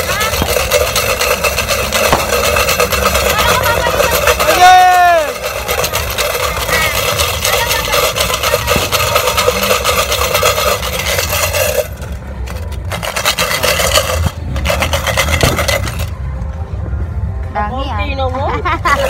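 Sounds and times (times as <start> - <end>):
rough rubbing and scraping: 0.0 - 16.2.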